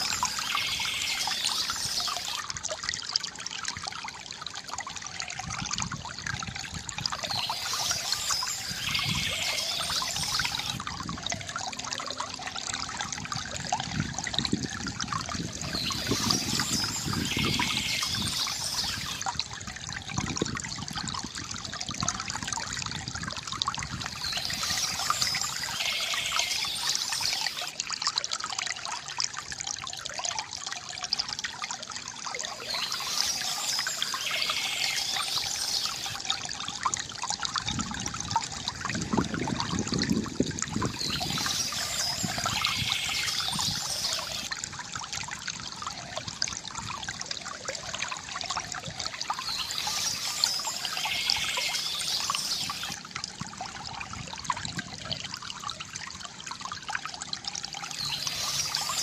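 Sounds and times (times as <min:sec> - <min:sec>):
fountain water trickling: 0:00.0 - 0:59.0.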